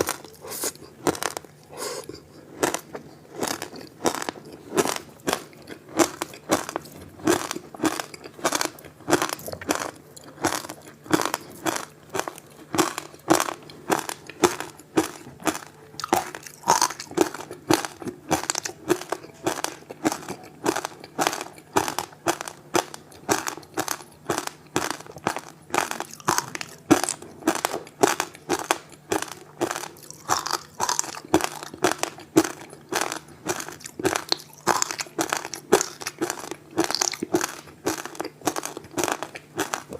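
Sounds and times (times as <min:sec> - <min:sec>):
crunching frozen ice: 0:00.0 - 0:02.0, 0:02.6 - 0:39.9.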